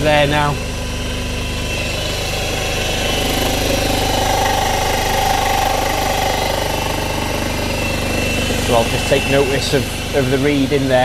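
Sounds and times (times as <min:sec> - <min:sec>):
cutter whine: 0:00.0 - 0:11.0
machine motor hum: 0:00.0 - 0:11.0.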